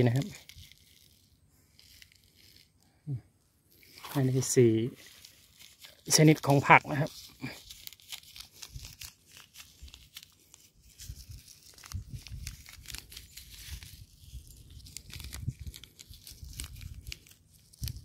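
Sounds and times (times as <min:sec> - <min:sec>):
seed packets crinkling: 0:00.0 - 0:03.0, 0:03.7 - 0:18.0.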